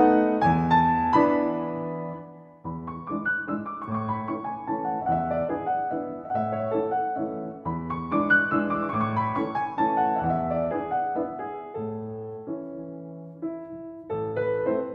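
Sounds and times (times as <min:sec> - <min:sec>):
background piano music: 0:00.0 - 0:14.9.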